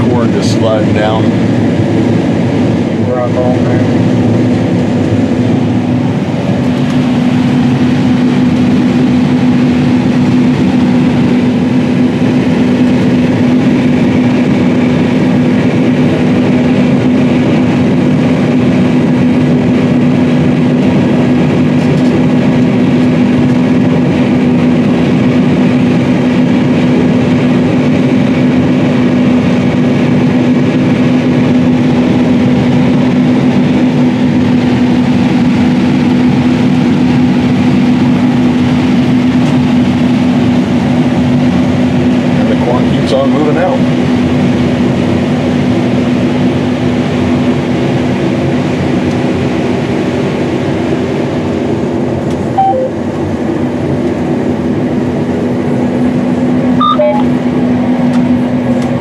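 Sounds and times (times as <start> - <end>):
combine harvester drone: 0.0 - 59.0.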